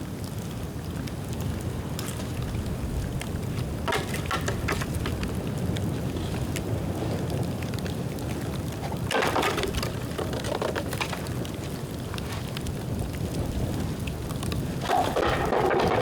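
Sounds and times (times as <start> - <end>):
bamboo fire crackling: 0.3 - 16.0.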